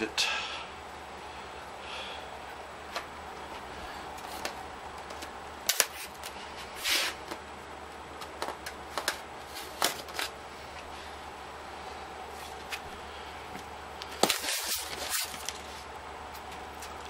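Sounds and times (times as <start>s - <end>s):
fan humming: 0.0s - 17.0s.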